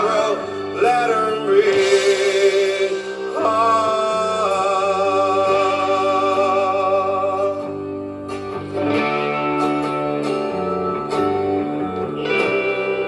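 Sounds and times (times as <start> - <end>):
rock band music from a record: 0.0 - 13.0.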